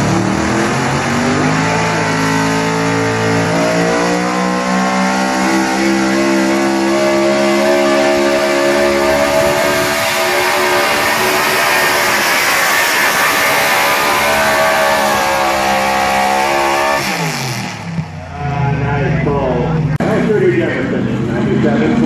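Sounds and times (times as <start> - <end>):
diesel truck engine at full throttle: 0.0 - 22.0.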